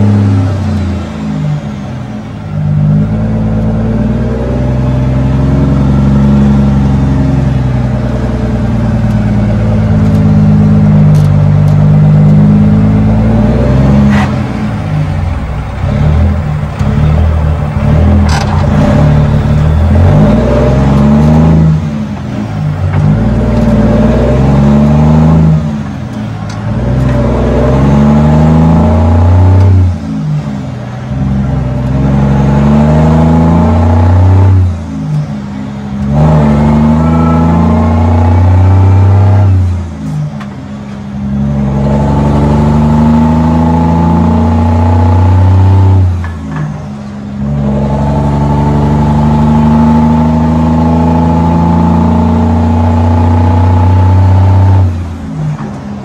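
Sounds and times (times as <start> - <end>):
diesel truck accelerating: 0.0 - 56.0.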